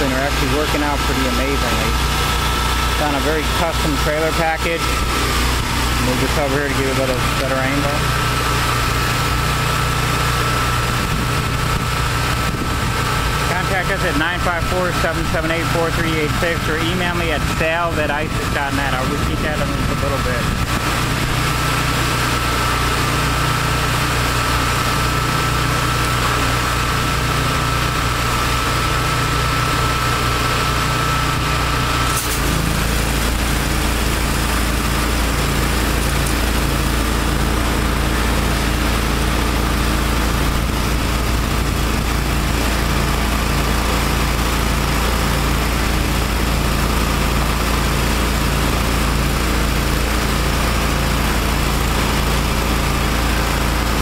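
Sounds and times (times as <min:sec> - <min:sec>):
high whine: 0:00.0 - 0:54.0
pressure washer engines running: 0:00.0 - 0:54.0
surface cleaner on concrete: 0:00.0 - 0:54.0.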